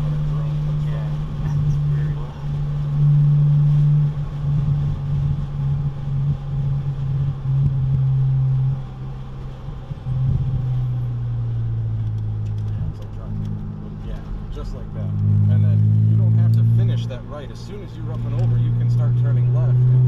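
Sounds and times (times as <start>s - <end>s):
car engine droning in cabin: 0.0s - 20.0s.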